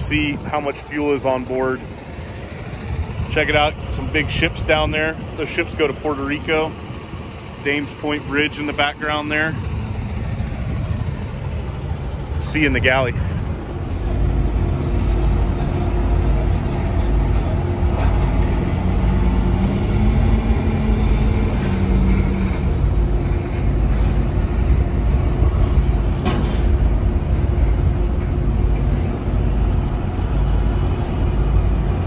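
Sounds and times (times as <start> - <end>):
engine machinery rumbling: 0.0 - 32.0.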